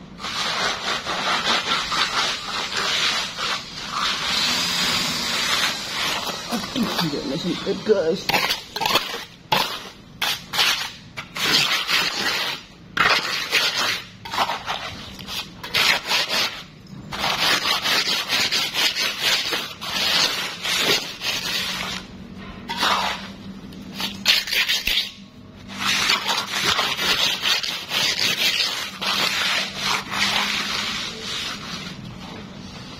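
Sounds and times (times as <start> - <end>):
trowel scraping wet concrete: 0.2 - 32.4.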